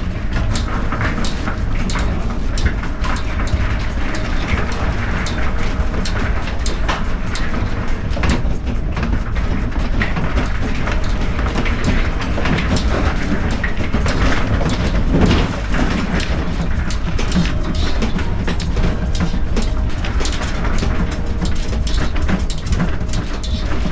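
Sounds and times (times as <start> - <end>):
rattles and knocks: 0.0 - 23.9.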